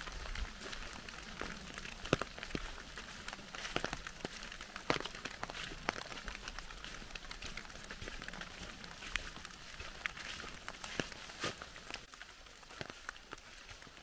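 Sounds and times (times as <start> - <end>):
steady rain hiss: 0.0 - 13.7
footsteps on wet leaves: 0.0 - 14.0.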